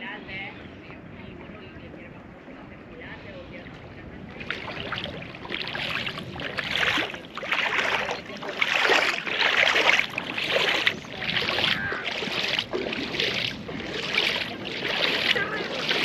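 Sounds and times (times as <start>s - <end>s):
shallow seawater splashing: 2.2s - 16.0s.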